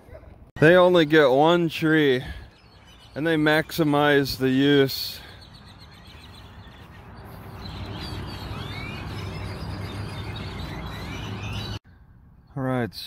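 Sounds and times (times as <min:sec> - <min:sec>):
flock of birds chirping: 0:00.6 - 0:11.8.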